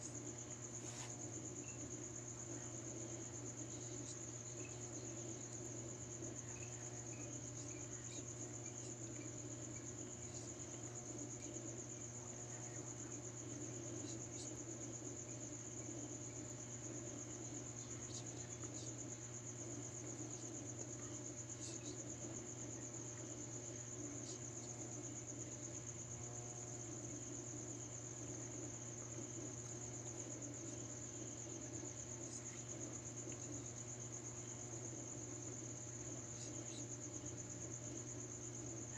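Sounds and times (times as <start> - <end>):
crickets trilling: 0.0 - 38.9
low steady hum: 0.0 - 38.9.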